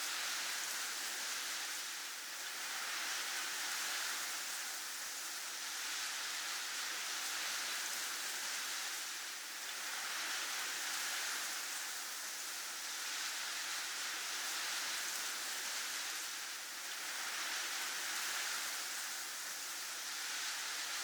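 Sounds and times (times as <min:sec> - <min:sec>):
soft hiss of falling snow: 0:00.0 - 0:21.0.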